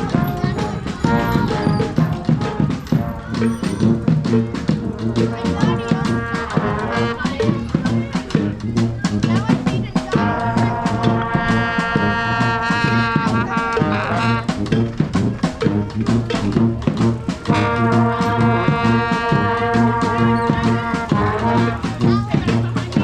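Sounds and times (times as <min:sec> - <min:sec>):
brass horns holding chords: 0:00.0 - 0:23.0
steady drumbeat: 0:00.0 - 0:23.0.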